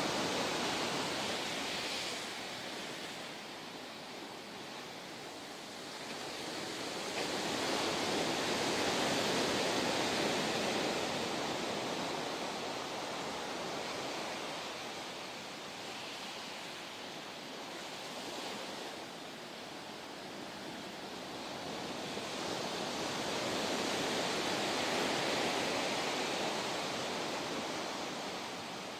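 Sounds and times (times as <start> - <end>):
ocean waves breaking: 0.0 - 28.9.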